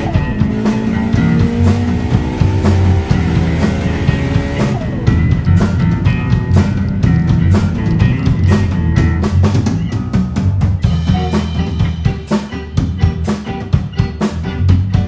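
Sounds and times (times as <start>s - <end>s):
drum kit beat: 0.0s - 15.0s
rock music: 0.0s - 15.0s.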